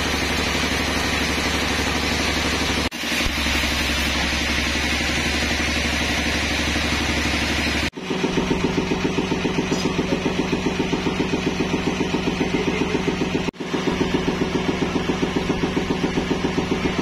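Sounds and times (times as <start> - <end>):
pulsing engine-like hum: 0.0 - 17.0.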